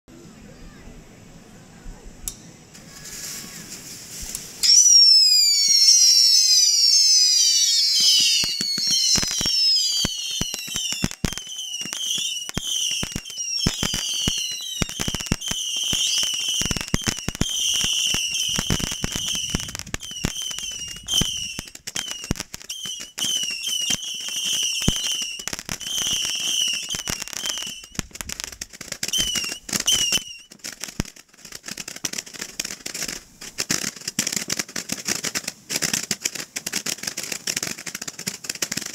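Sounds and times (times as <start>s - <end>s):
firework pops and crackling: 2.2s - 38.9s
firework whistles: 2.7s - 38.9s.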